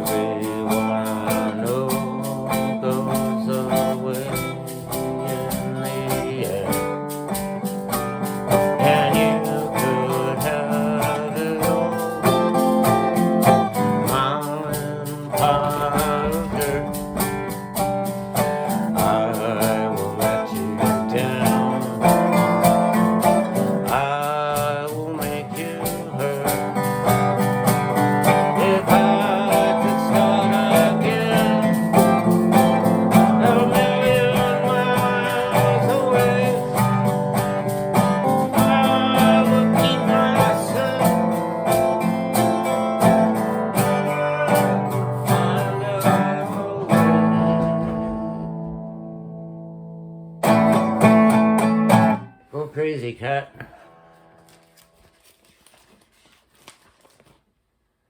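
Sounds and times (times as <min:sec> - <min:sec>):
person singing: 0:00.0 - 0:49.0
acoustic guitar: 0:00.0 - 0:57.6.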